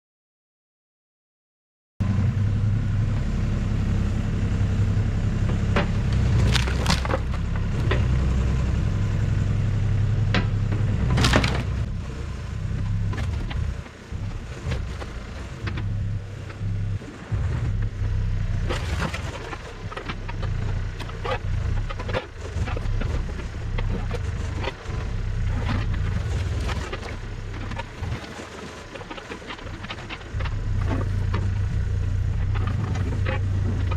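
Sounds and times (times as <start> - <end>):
heavy machine engine running: 2.0 - 33.9.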